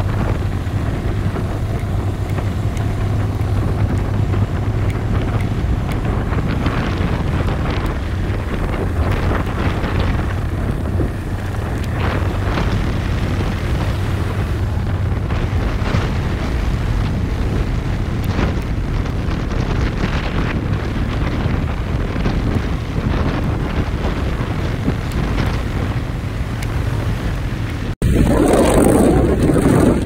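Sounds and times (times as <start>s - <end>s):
steady low rumble: 0.0s - 30.0s
wind buffeting microphone: 0.0s - 30.0s.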